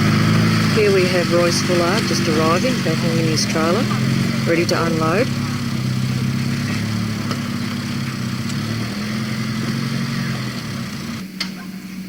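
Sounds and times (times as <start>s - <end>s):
vehicle engine running at low revs: 0.0s - 11.4s.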